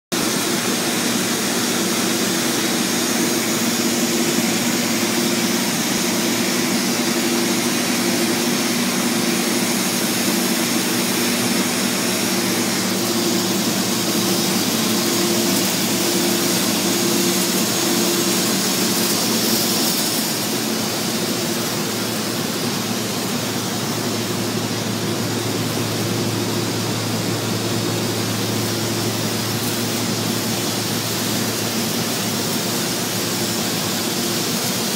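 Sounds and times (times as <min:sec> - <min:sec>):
machine hum: 0:00.2 - 0:34.9
welding machine hiss: 0:00.2 - 0:34.9.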